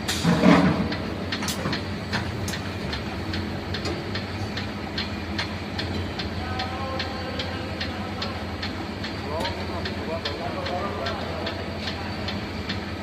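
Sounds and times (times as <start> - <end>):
motor hum with regular ticking: 0.0 - 13.0.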